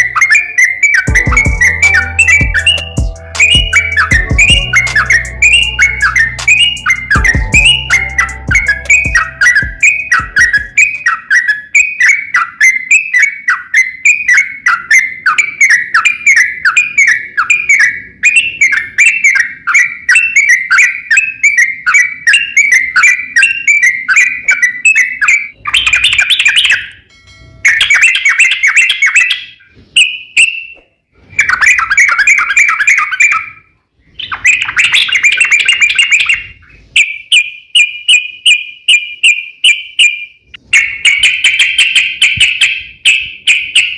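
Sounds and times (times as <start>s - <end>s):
songbird chirping and trilling: 0.0s - 43.9s.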